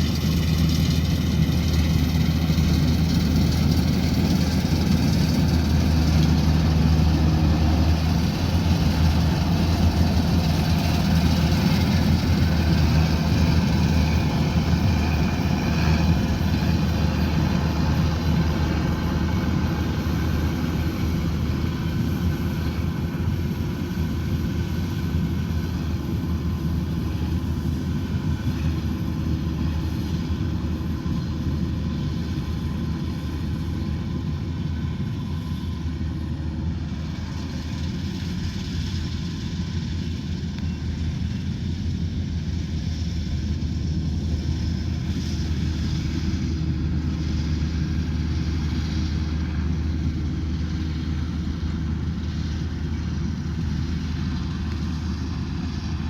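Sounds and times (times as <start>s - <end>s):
harvester engine droning: 0.0s - 56.0s.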